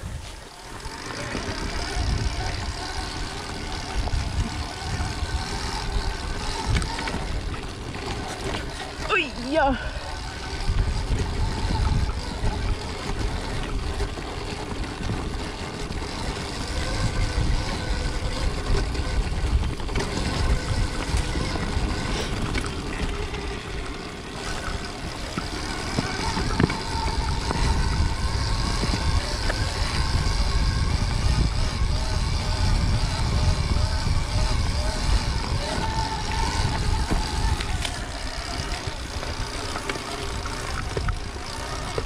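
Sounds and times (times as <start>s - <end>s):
electric motor whine: 0.0s - 42.0s
wind buffeting microphone: 0.0s - 42.0s.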